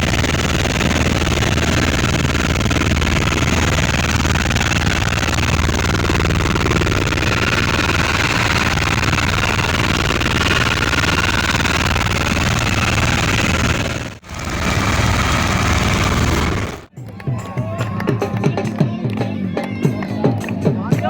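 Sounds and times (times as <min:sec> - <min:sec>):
helicopter engine and rotor: 0:00.0 - 0:16.9.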